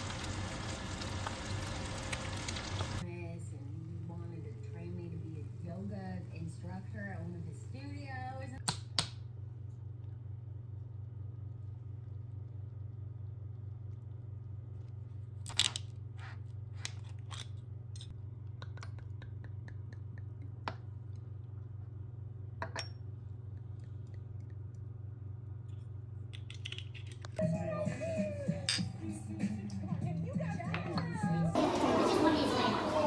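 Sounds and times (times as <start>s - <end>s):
steady low hum: 3.0s - 31.8s.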